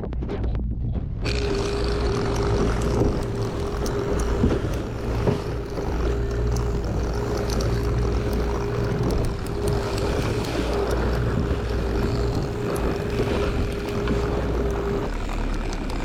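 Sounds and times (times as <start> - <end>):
boat engine running: 0.8 - 16.0
wind and water rushing: 1.2 - 16.0.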